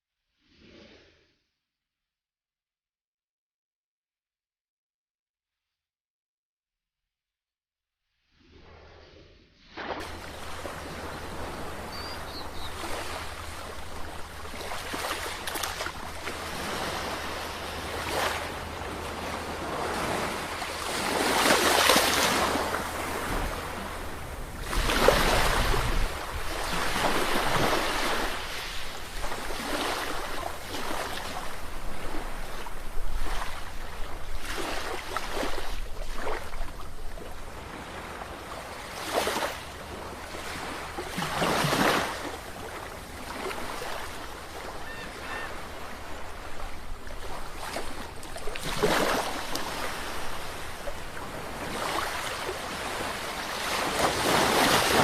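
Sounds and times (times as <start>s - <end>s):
ocean waves breaking: 9.8s - 55.0s.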